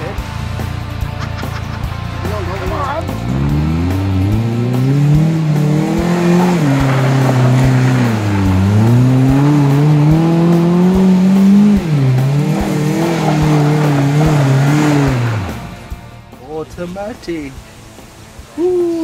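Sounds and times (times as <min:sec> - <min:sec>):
car engine revving: 0:00.0 - 0:18.5.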